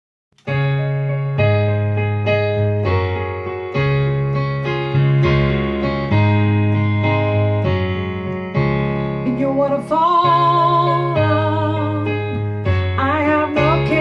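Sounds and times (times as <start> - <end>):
electric piano chords: 0.4 - 14.0.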